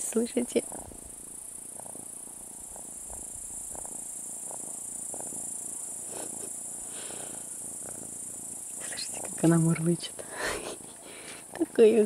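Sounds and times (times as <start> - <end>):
cat purring: 0.0 - 12.0
grasshoppers chirring: 0.0 - 12.0.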